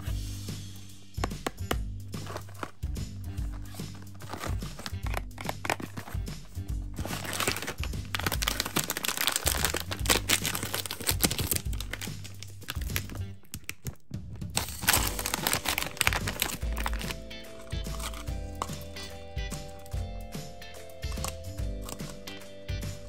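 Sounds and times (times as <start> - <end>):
quiet background music: 0.0 - 23.0
candy tipping into plastic cup: 1.2 - 6.3, 7.0 - 20.0, 21.0 - 22.4
plastic pouch crinkling: 1.4 - 20.0, 21.0 - 22.4.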